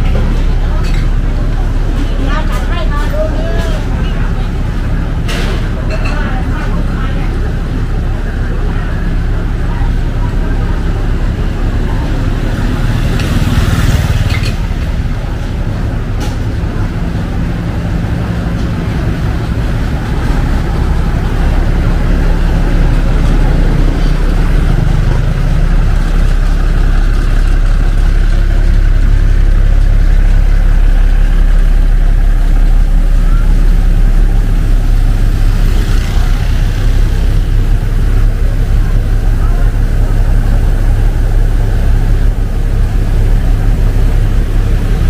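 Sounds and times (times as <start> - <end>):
faint voices: 0.0 - 45.0
large engine idling: 0.0 - 45.0.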